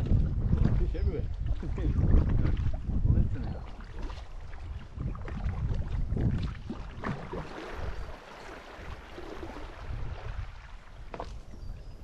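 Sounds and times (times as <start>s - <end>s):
water splashing against kayak hull: 0.0s - 12.0s
wind buffeting microphone: 0.0s - 12.0s.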